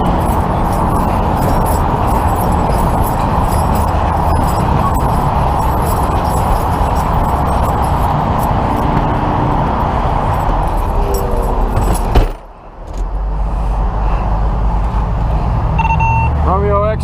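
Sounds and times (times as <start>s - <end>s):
freeway traffic noise: 0.0s - 17.0s
low engine rumble: 0.0s - 17.0s.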